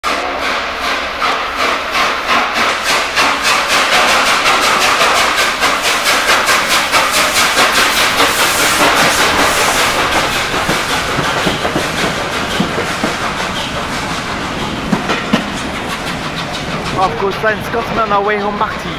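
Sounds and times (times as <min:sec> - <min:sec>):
steam hissing: 0:00.0 - 0:18.9
steam locomotive chuffing: 0:00.0 - 0:18.9.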